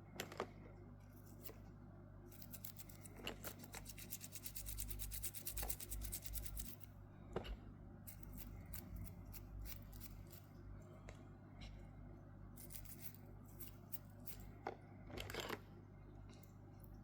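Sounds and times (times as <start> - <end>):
faint steady hum: 0.0 - 17.0
small clicks and scrapes: 2.3 - 11.8, 12.6 - 17.0.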